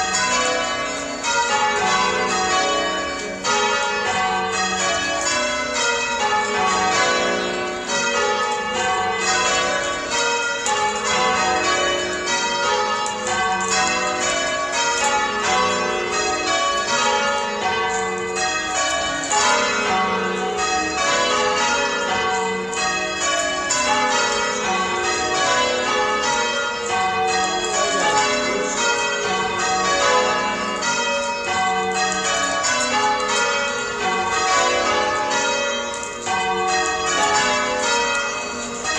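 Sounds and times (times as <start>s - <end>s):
church bells change-ringing: 0.0s - 38.9s.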